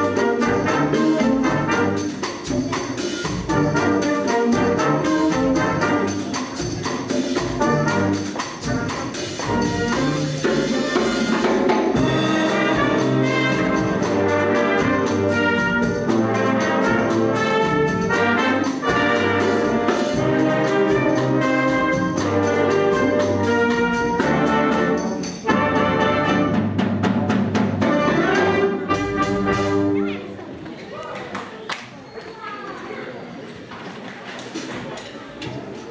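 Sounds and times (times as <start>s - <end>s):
drum kit percussion: 0.0s - 30.1s
wind band playing: 0.0s - 30.4s.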